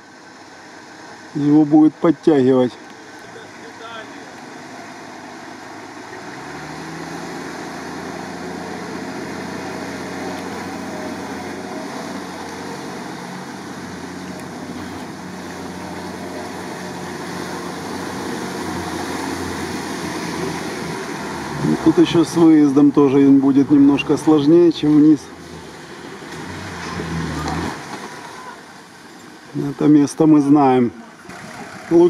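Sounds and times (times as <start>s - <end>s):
water rushing around vehicle: 0.0s - 32.0s
off-road vehicle engine revving: 2.8s - 32.0s.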